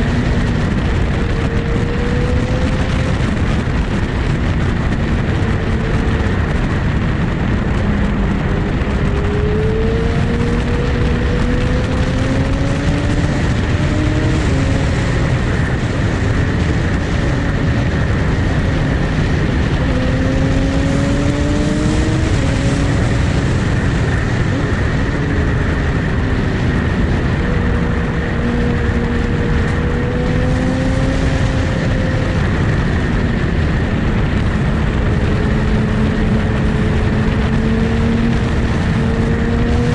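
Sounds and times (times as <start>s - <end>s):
loud rushing noise: 0.0s - 39.9s
motorcycle engine riding: 0.0s - 39.9s.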